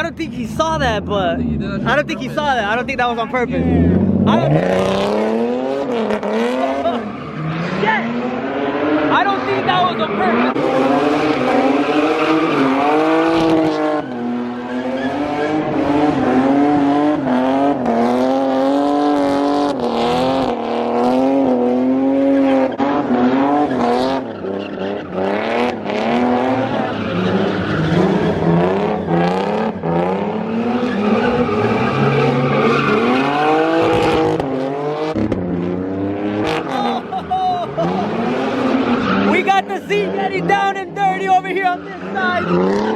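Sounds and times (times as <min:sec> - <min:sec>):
car engine revving high: 0:00.0 - 0:42.9
tyres squealing and skidding: 0:01.3 - 0:17.9, 0:21.7 - 0:34.6, 0:36.4 - 0:42.9.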